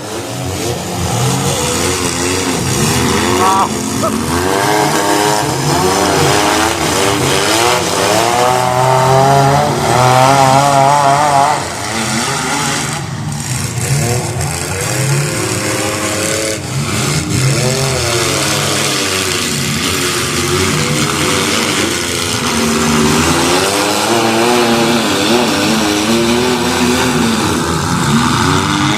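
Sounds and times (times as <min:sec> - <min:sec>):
car engines revving: 0:00.0 - 0:28.9.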